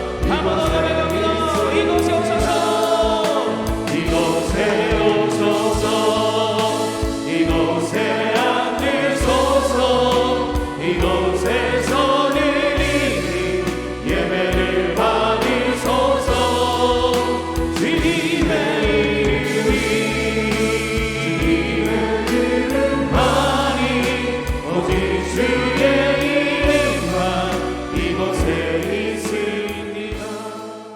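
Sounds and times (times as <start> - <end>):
band playing steady beat: 0.0 - 30.6
choir singing worship song: 0.0 - 30.9.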